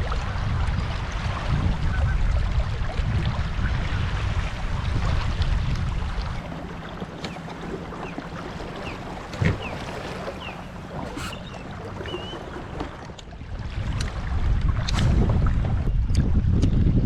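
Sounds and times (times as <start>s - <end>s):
water lapping around kayak: 0.0s - 17.0s
wind buffeting microphone: 0.0s - 17.0s.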